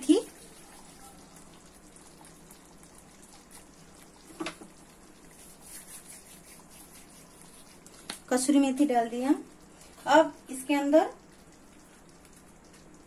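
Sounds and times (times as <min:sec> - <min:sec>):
pan simmering bubbling: 0:00.0 - 0:13.0.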